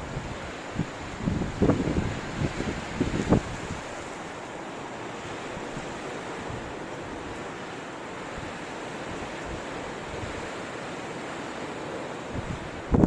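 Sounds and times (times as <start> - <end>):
wind buffeting microphone: 0.0 - 11.3, 12.2 - 13.0
blizzard wind blowing: 0.0 - 13.0.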